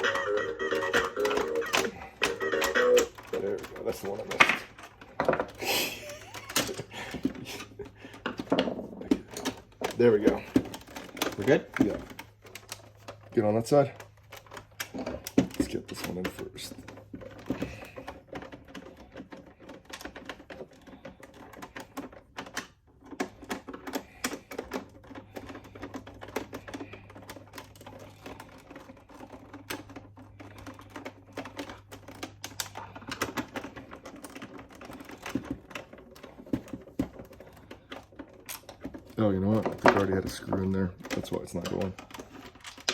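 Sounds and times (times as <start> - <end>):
screwdriver clicking on plastic parts: 0.0 - 42.9.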